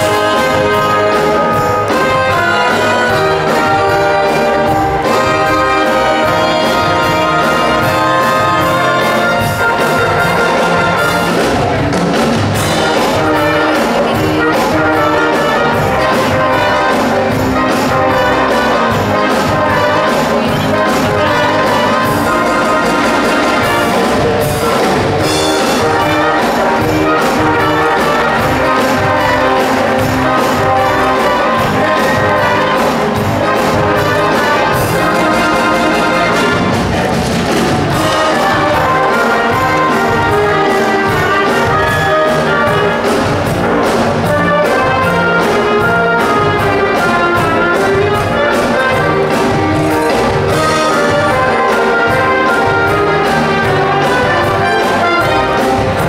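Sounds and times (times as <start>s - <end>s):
brass-led orchestral music: 0.0s - 56.0s.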